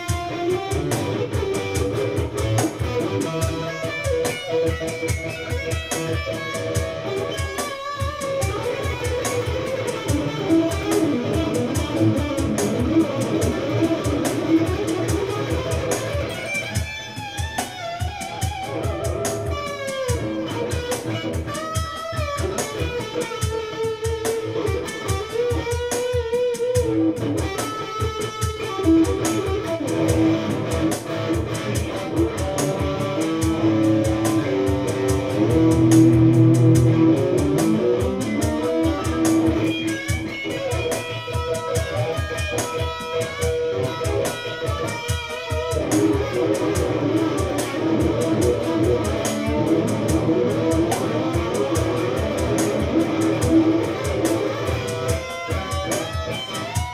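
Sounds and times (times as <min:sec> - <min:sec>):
electric guitar solo: 0:00.0 - 0:56.9.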